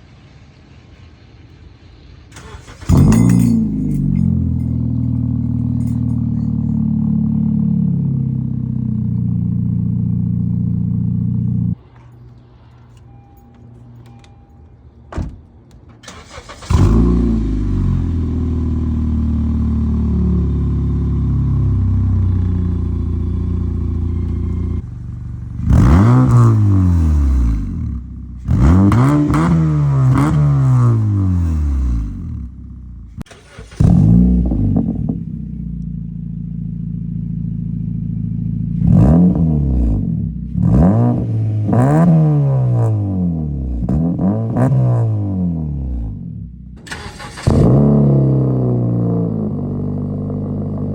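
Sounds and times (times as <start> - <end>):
car engine idling and revving: 0.0 - 14.3, 15.2 - 50.9.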